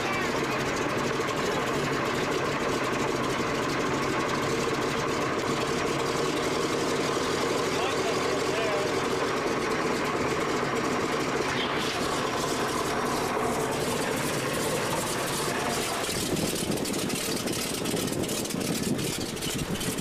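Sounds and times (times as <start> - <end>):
light aircraft piston engine: 0.0 - 20.0.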